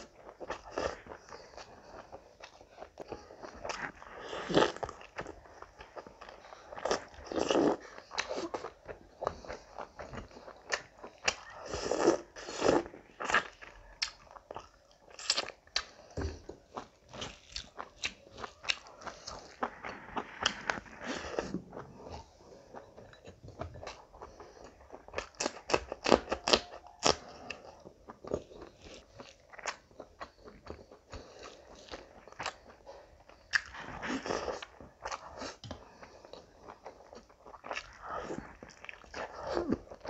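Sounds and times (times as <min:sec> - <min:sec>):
close chewing with mouth sounds: 0:00.0 - 0:40.0.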